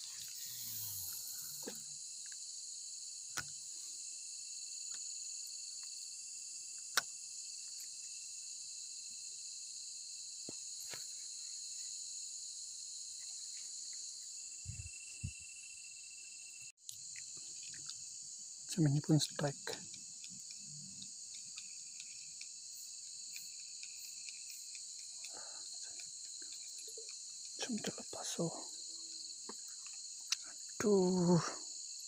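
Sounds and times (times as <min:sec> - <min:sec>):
night insects shrilling: 0:00.0 - 0:32.0.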